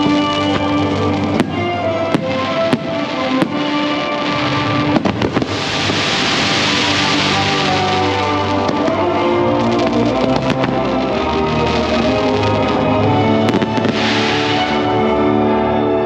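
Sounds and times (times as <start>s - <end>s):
fireworks hiss: 0.0s - 12.8s, 13.4s - 15.1s
fireworks bangs: 0.0s - 15.1s
show music: 0.0s - 16.0s.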